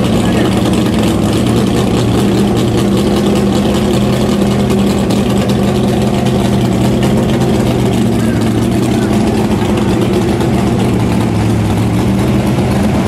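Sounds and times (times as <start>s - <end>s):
car engine idling loudly: 0.0s - 13.0s.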